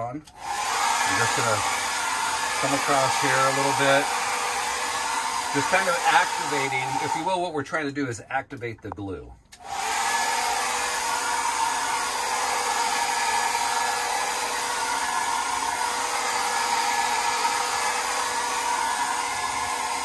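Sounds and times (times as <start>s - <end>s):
hair dryer blowing air: 0.3s - 7.5s, 9.6s - 20.0s.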